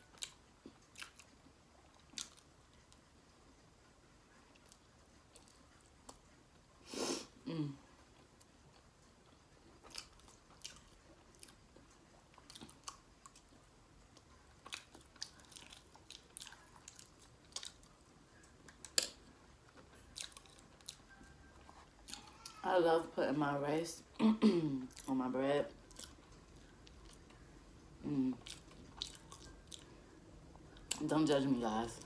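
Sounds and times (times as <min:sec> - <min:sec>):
person chewing with wet clicks: 0:00.0 - 0:03.2, 0:04.5 - 0:06.7, 0:08.0 - 0:22.6, 0:24.9 - 0:27.5, 0:28.1 - 0:32.0.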